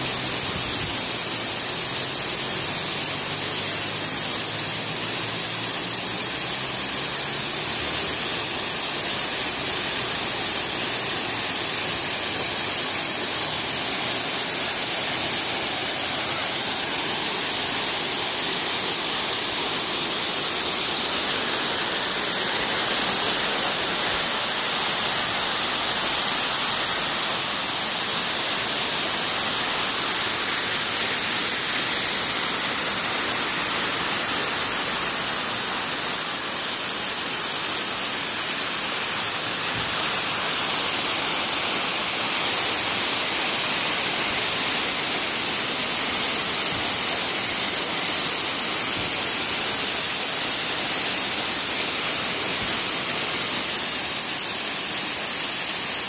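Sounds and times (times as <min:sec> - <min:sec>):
waterfall rushing over rock: 0:00.0 - 0:56.0.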